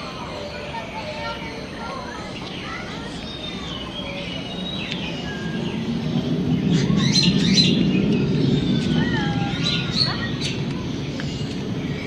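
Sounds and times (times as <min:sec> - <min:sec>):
birds chirping and whistling: 0:00.1 - 0:12.0.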